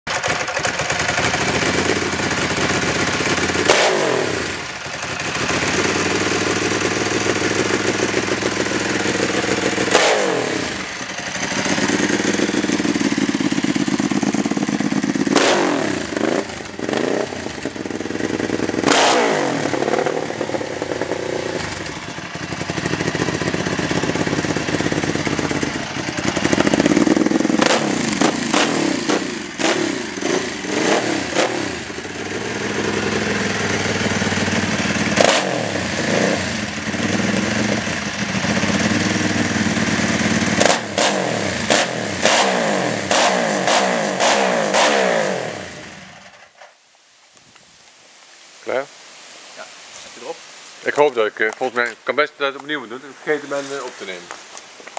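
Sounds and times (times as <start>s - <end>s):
motorcycle engine idling and revving: 0.0s - 46.8s.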